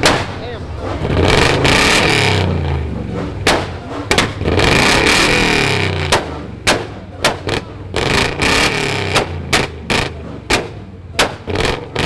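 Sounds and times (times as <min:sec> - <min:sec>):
car engine revving hard: 0:00.0 - 0:12.0
exhaust pops: 0:00.0 - 0:12.0.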